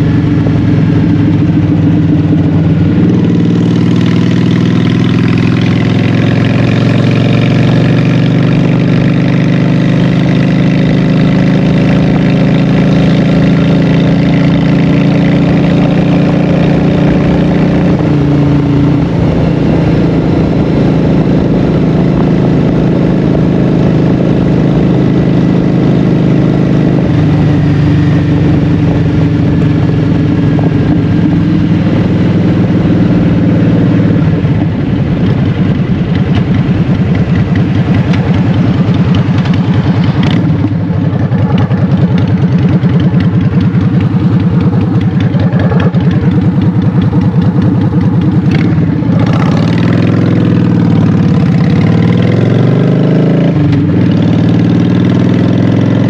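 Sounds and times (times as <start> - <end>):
motorcycle engine running loud: 0.0 - 56.0.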